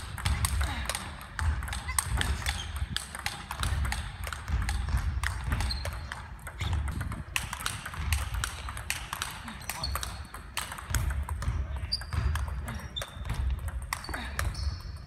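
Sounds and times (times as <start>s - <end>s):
table tennis ball clicks: 1.4s - 15.0s.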